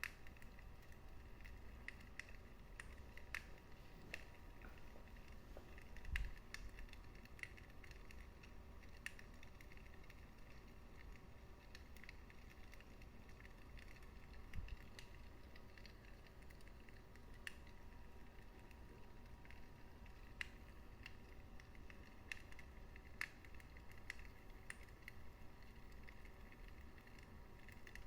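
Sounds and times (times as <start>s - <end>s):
low steady rumble: 0.0s - 28.0s
wood fire crackling: 0.0s - 28.0s.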